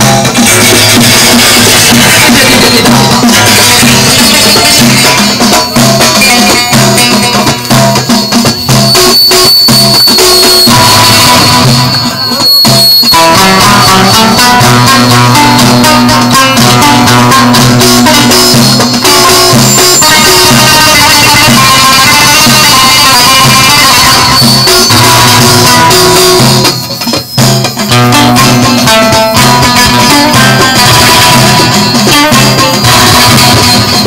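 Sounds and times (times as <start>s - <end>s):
plucked long-necked lute: 0.0s - 12.5s, 13.1s - 34.0s
frame drums beating: 0.0s - 34.0s.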